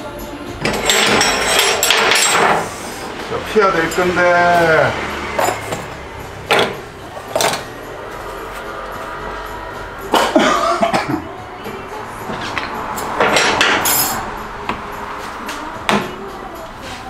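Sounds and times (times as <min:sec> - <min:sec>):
metal tools clanking and scraping: 0:00.5 - 0:09.4, 0:10.3 - 0:16.2.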